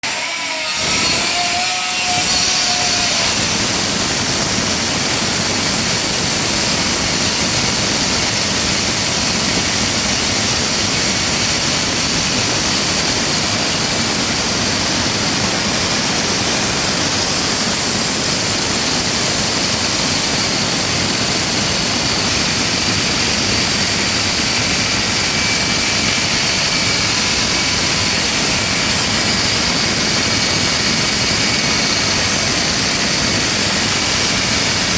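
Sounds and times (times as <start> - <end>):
concrete cutter grinding: 0.0 - 34.9.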